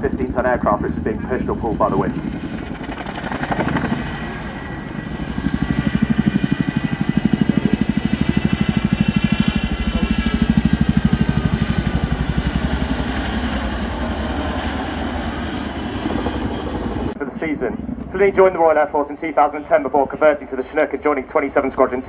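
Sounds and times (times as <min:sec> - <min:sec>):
helicopter flying past: 0:00.0 - 0:22.0.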